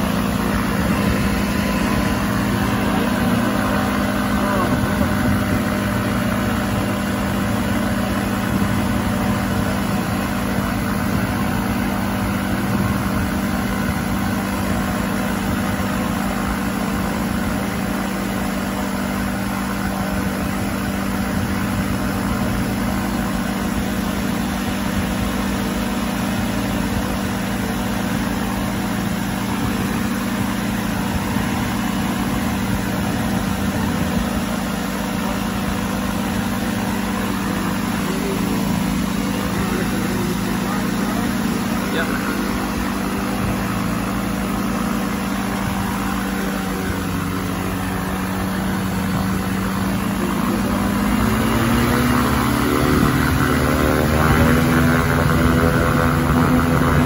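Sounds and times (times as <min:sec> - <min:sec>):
aircraft engine idling: 0:00.0 - 0:57.0.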